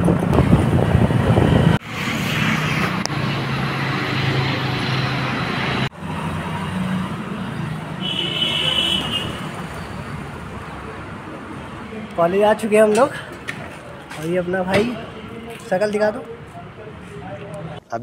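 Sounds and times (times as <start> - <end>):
road and traffic noise: 0.0 - 18.0.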